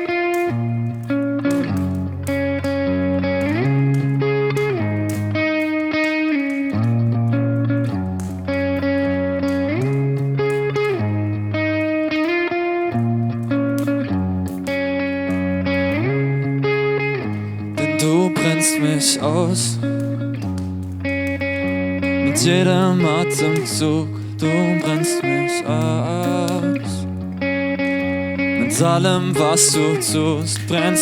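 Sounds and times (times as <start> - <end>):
strummed guitar chords: 0.0 - 31.0.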